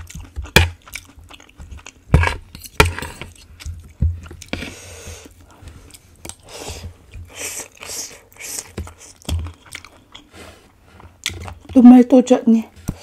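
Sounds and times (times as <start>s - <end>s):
wet chewing: 0.0s - 11.8s.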